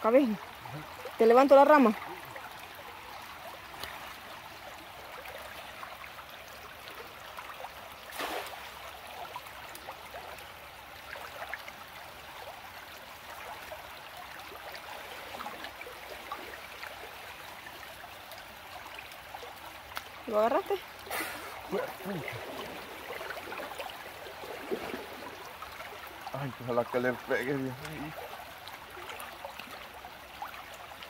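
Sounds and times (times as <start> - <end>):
river water trickling over stones: 0.0 - 31.0.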